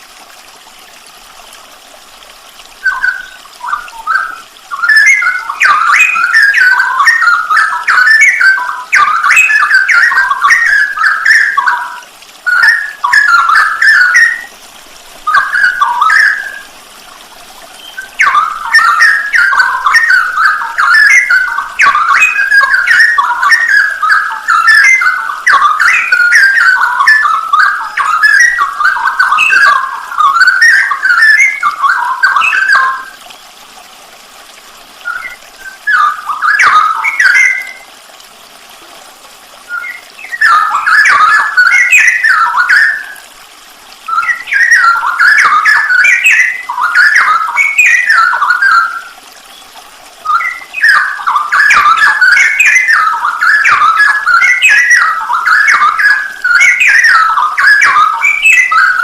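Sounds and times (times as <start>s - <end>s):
bulbul singing warbled phrases: 2.8s - 14.6s, 15.2s - 16.8s, 17.6s - 33.3s, 35.0s - 37.9s, 39.7s - 43.2s, 44.0s - 59.0s.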